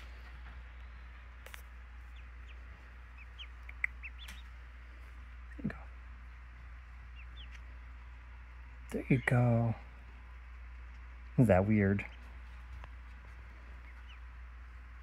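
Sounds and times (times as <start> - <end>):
ducklings peeping: 0.0 - 15.0
low steady hum: 0.0 - 15.0.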